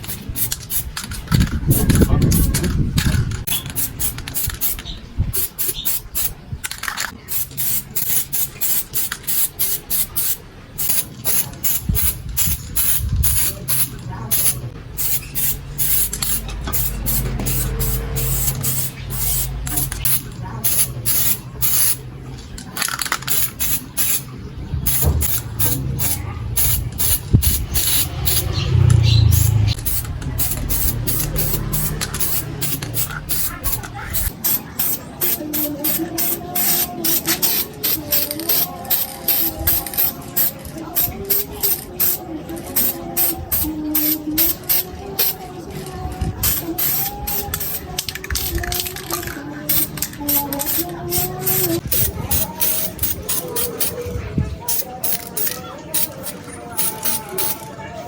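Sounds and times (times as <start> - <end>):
spray paint can bursts: 0.0 - 2.6, 3.4 - 22.0, 22.8 - 45.4, 46.4 - 54.0, 54.7 - 57.6.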